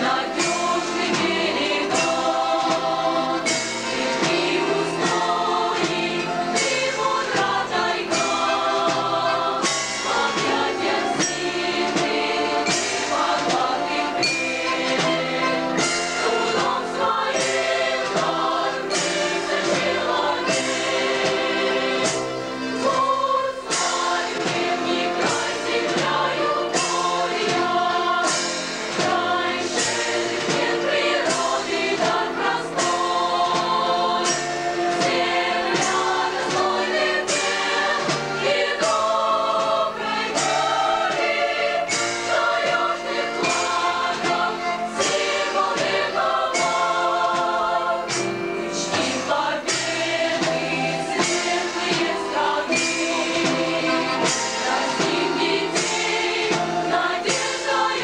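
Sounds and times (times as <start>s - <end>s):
choir singing a hymn: 0.0s - 58.0s
plucked strings orchestra: 0.0s - 58.0s.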